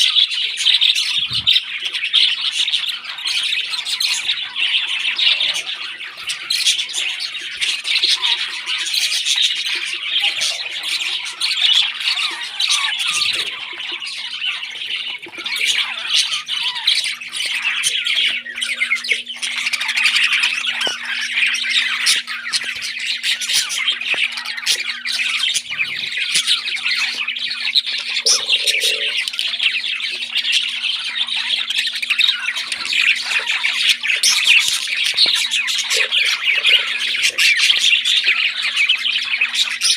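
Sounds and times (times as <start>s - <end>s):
parrots squawking and chirping: 0.0s - 39.9s.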